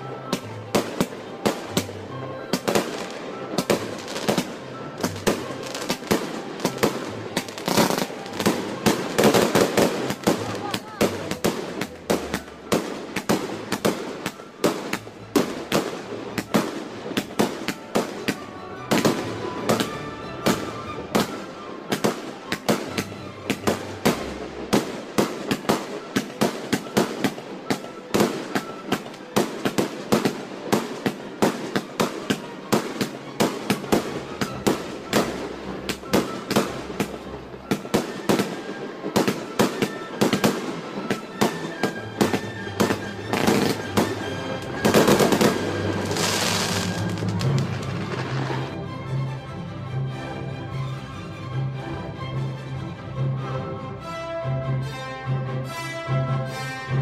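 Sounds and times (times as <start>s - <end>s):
fireworks bangs and crackles: 0.0s - 48.8s.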